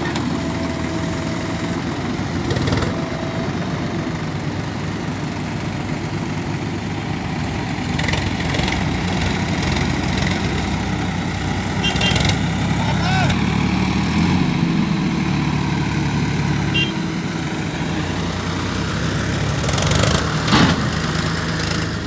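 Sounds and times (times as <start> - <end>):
heavy diesel engines running: 0.0 - 22.0.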